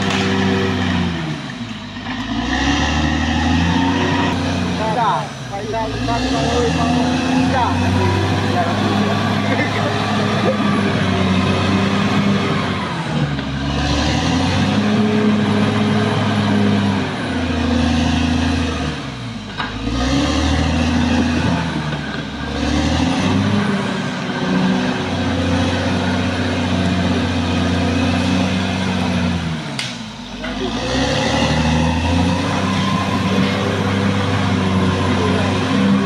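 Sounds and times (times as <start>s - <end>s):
bulldozer diesel engine under load: 0.0s - 36.0s.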